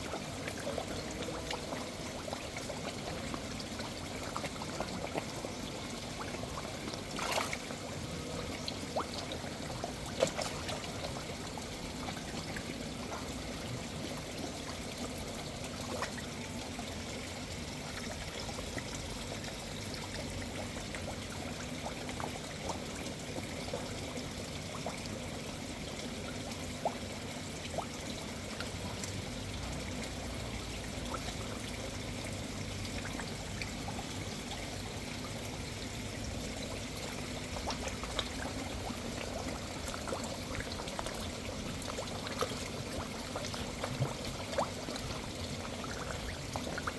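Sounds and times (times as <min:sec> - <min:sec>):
water trickling into a pond: 0:00.0 - 0:46.9.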